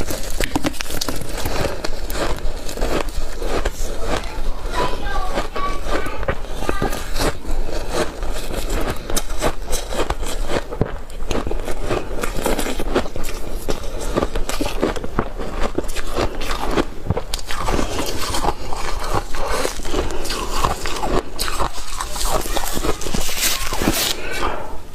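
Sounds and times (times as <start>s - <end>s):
crunching ice: 0.0s - 24.5s.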